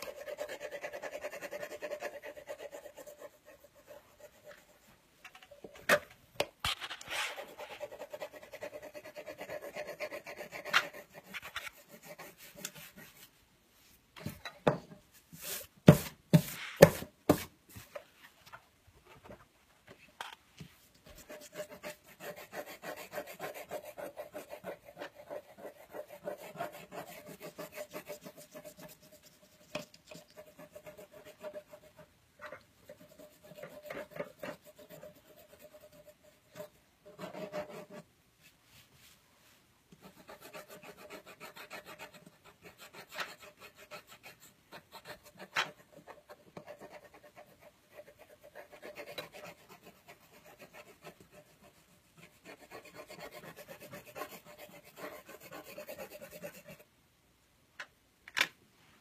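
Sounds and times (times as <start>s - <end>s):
pencil scratching on paper: 0.0s - 4.9s, 6.7s - 13.4s, 15.3s - 17.9s, 21.0s - 38.1s, 39.9s - 56.9s.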